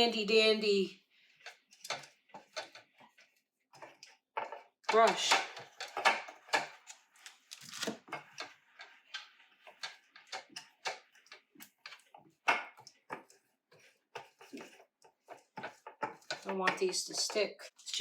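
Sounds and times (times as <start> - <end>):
brush tapping in muffin pan: 1.4 - 7.4, 8.0 - 17.7.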